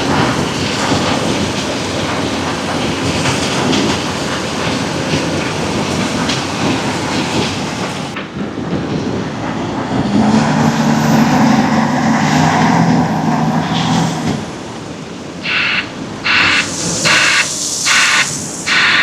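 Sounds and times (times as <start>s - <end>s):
diesel engine under load: 0.0s - 19.0s
heavy diesel machinery rumbling: 0.0s - 19.0s.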